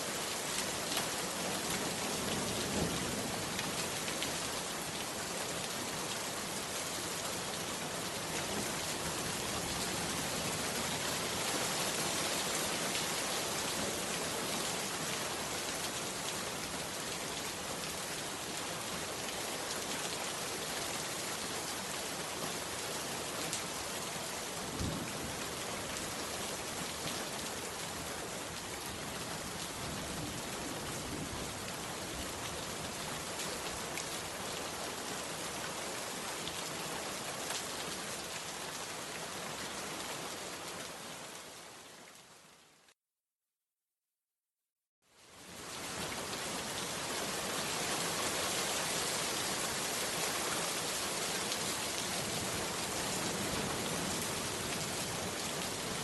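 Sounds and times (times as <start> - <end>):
heavy rain falling: 0.0 - 42.2, 45.4 - 56.0.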